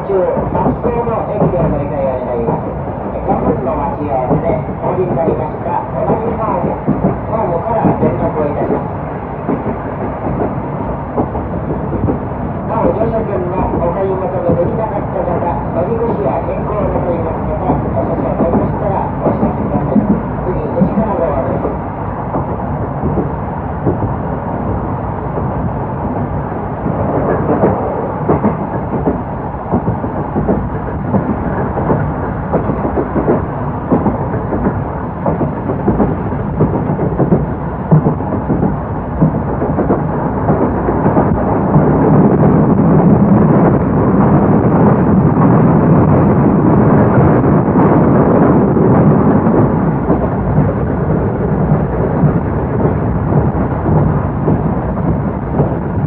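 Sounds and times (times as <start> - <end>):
train rumbling: 0.0 - 56.0
train wheels clattering: 0.0 - 56.0.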